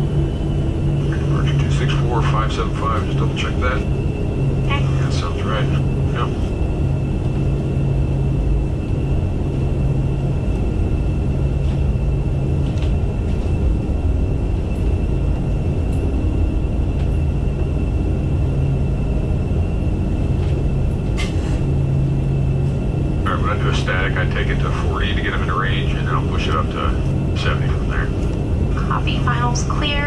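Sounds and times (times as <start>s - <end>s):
high engine whine: 0.0s - 30.0s
jet engines low rumble: 0.0s - 30.0s.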